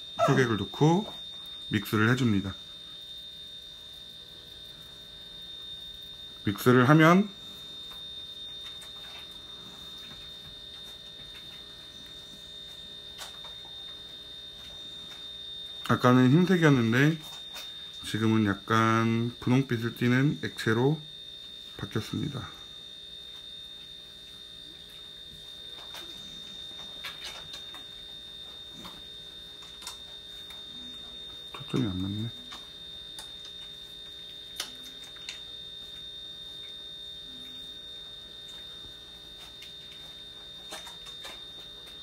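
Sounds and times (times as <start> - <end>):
faint high-pitched whine: 0.0 - 42.0.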